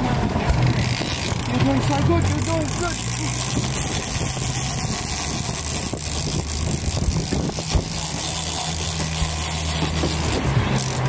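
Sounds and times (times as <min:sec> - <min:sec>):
boat engine running: 0:00.0 - 0:11.0
water rushing along hull: 0:00.0 - 0:11.0.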